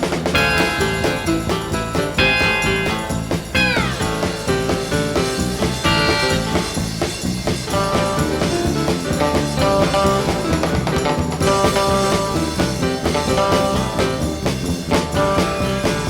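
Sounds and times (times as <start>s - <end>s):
instrumental music with drums and brass: 0.0s - 16.0s.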